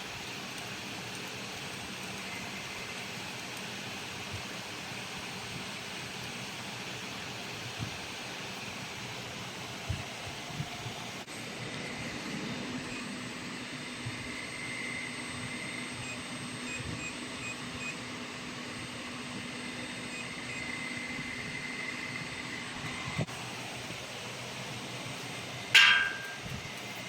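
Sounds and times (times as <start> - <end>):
laser welding machine hiss and hum: 0.0 - 27.0.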